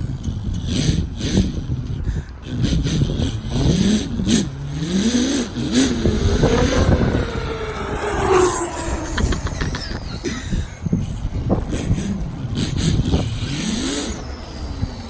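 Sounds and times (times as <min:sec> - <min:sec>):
engine sound effect revving: 0:00.7 - 0:15.0.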